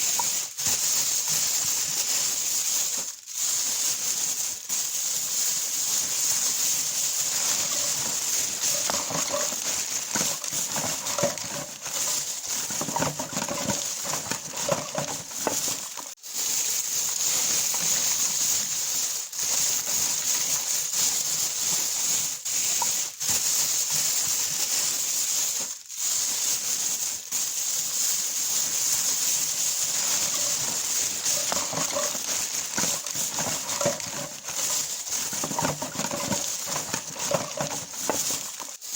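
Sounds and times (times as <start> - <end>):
plastic bag crinkling: 0.0 - 38.9.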